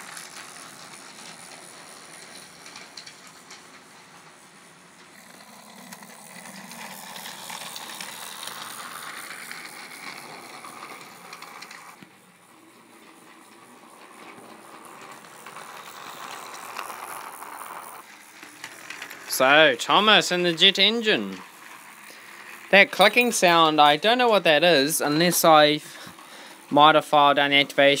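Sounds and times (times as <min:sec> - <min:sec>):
toy train motor and wheels rattling: 0:00.0 - 0:28.0.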